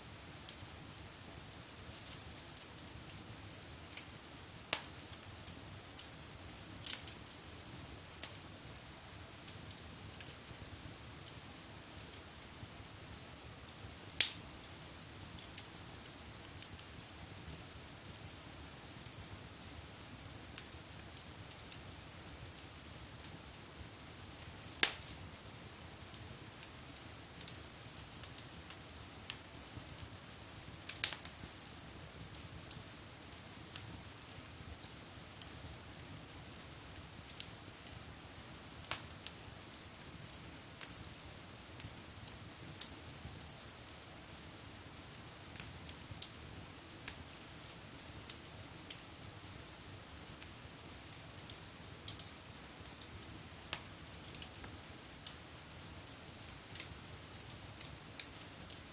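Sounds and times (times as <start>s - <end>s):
low steady hiss: 0.0s - 58.9s
wood fire crackling and popping: 0.1s - 58.9s.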